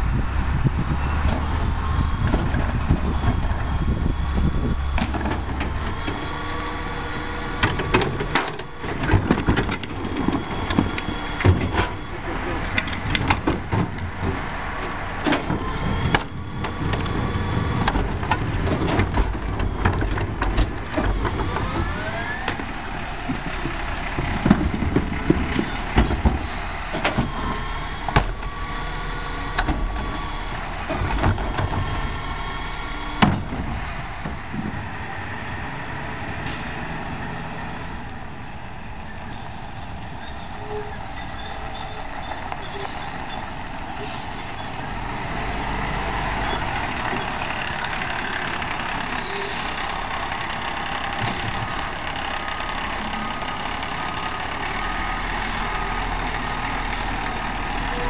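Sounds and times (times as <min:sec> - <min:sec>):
garbage truck engine running: 0:00.0 - 0:58.0
trash carts knocking and banging: 0:00.5 - 0:35.0, 0:40.0 - 0:58.0.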